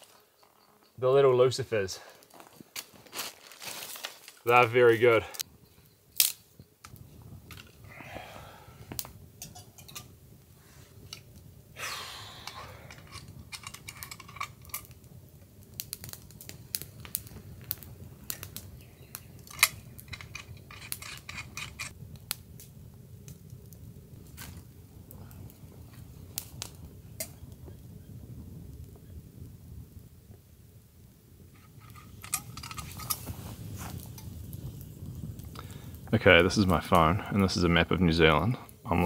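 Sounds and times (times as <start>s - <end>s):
campfire crackling and popping: 1.2s - 39.0s.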